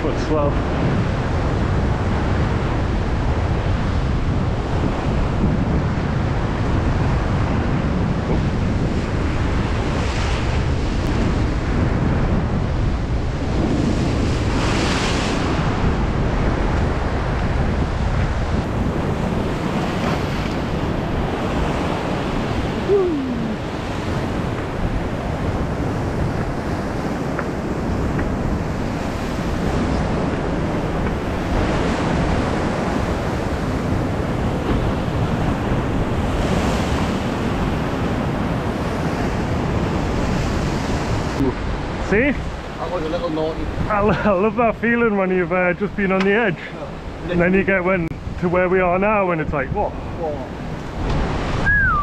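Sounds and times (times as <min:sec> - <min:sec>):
waves breaking over rocks: 0:00.0 - 0:44.6, 0:49.8 - 0:52.0
wind buffeting microphone: 0:00.0 - 0:52.0.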